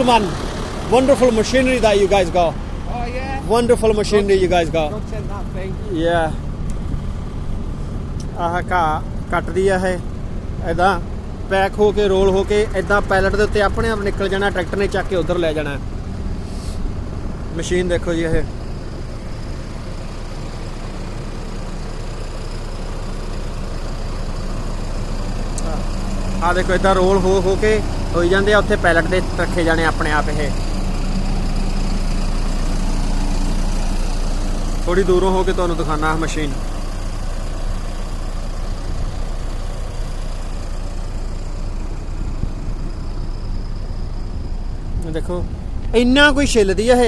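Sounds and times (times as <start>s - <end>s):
low engine rumble: 0.0s - 47.0s
turf harvester machinery drone: 0.0s - 47.0s.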